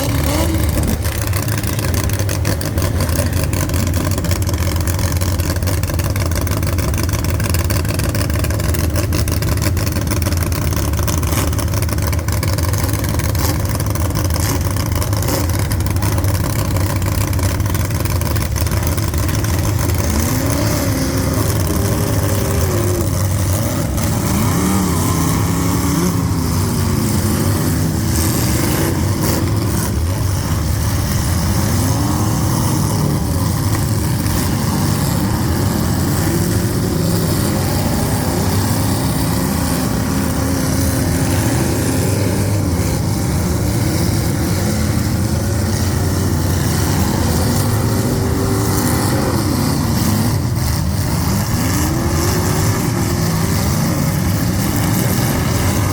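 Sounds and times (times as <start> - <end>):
car engines revving: 0.0 - 55.9.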